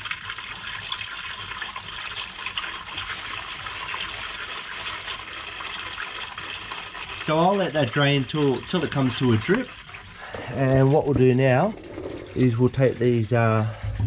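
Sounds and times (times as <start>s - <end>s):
oil splashing into drain tray: 0.0s - 14.0s.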